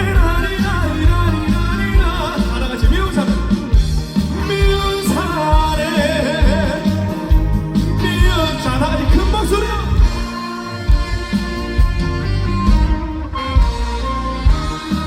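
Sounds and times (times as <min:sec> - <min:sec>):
male singer: 0:00.0 - 0:12.2
band accompaniment: 0:00.0 - 0:15.0
heavy drum beat: 0:00.0 - 0:15.0.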